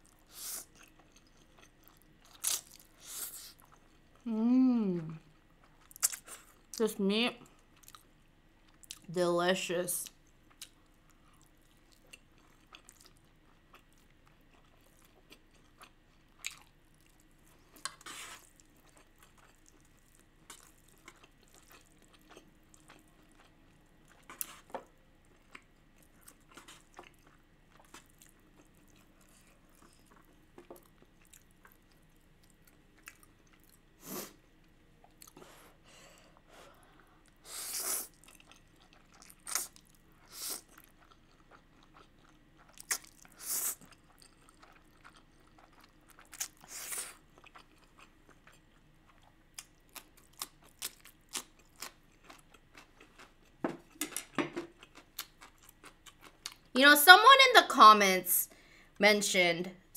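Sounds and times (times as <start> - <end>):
person chewing: 0.0 - 4.3, 5.3 - 6.8, 7.6 - 8.1, 8.7 - 9.1, 10.2 - 56.7.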